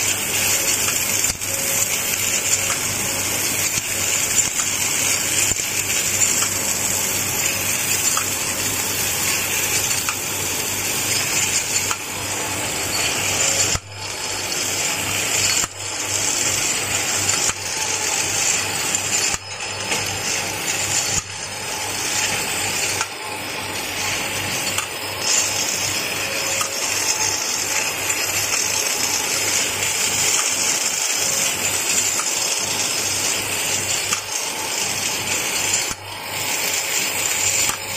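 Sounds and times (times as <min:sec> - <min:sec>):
machine whirring and humming: 0:00.0 - 0:37.9.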